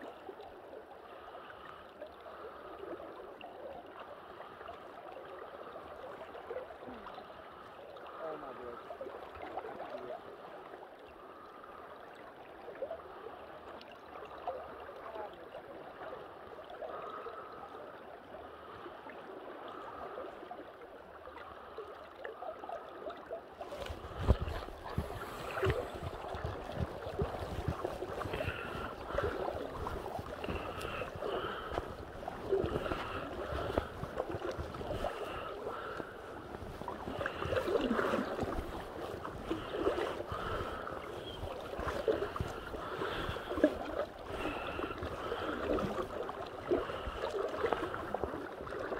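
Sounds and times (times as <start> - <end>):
river water gurgling: 0.0 - 48.9.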